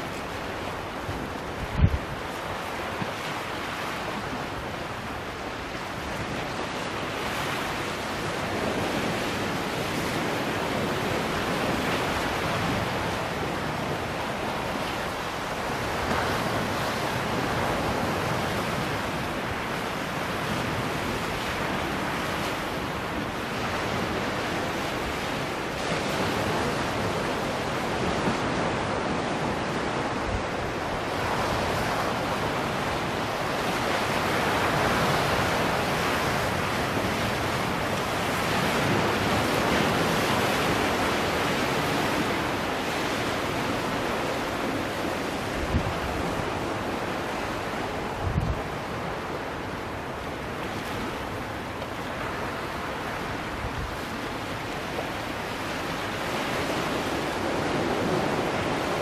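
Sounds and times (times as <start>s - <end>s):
ocean waves breaking on rocks: 0.0s - 59.0s.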